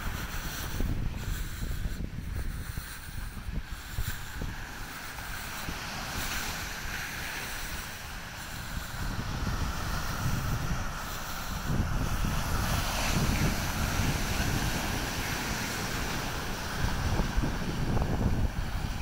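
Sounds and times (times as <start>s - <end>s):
ocean surf on sand beach: 0.0s - 19.0s
wind buffeting microphone: 0.0s - 19.0s.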